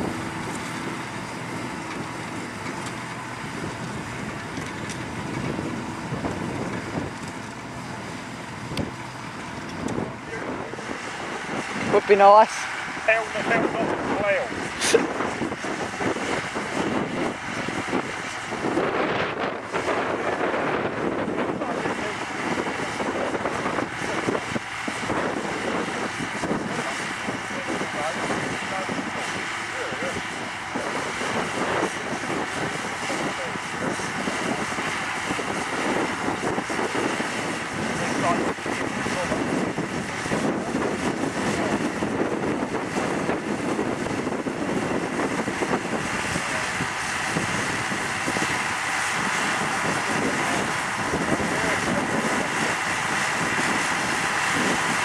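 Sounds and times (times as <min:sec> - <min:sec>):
tractor diesel engine running: 0:00.0 - 0:55.0
wind buffeting microphone: 0:00.0 - 0:55.0.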